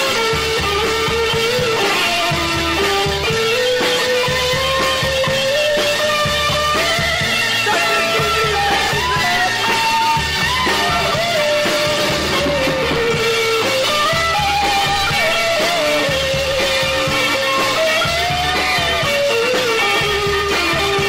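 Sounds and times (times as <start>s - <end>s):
guitar lead melody: 0.0s - 21.0s
repeating bass line: 0.0s - 21.0s.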